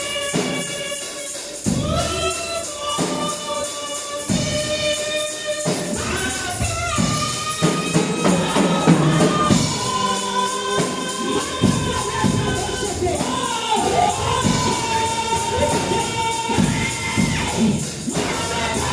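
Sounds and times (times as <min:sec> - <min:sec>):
gospel choir singing: 0:00.0 - 0:18.9
tambourine shaking: 0:00.0 - 0:18.9.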